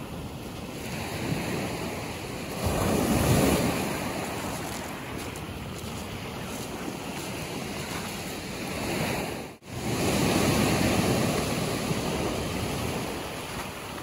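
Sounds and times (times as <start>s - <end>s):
surf washing over shingle: 0.7s - 14.0s.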